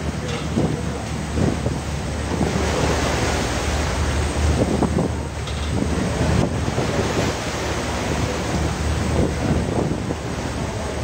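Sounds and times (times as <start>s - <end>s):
water splashing along hull: 0.0s - 11.0s
wind buffeting microphone: 0.0s - 11.0s.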